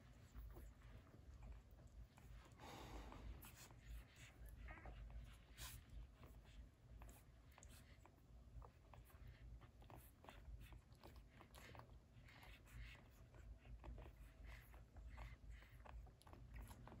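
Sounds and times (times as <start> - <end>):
puppies suckling and smacking: 0.0 - 17.0.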